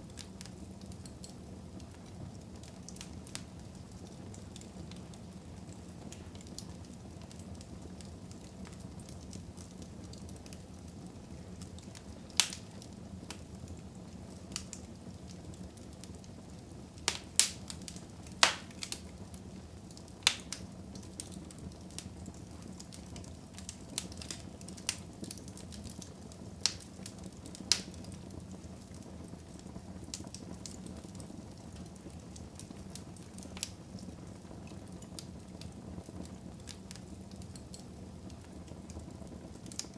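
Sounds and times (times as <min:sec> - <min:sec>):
burning logs popping and crackling: 0:00.0 - 0:39.9
fire rumbling in a fireplace: 0:00.0 - 0:39.9.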